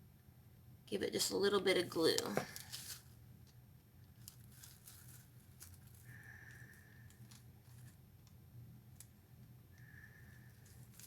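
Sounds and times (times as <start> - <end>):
rustling of craft materials: 1.3 - 11.0.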